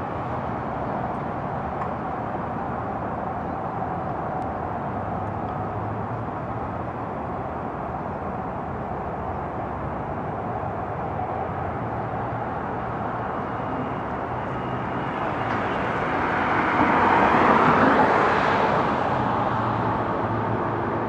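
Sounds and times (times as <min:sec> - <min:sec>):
street traffic hum: 0:00.0 - 0:21.0.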